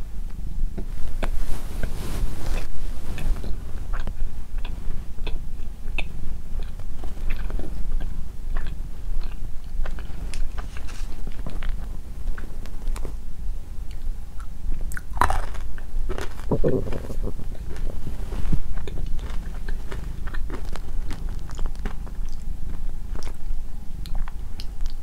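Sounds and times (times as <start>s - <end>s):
cat purring: 0.7s - 13.3s, 16.0s - 25.0s
person chewing: 0.8s - 13.1s, 13.9s - 25.0s.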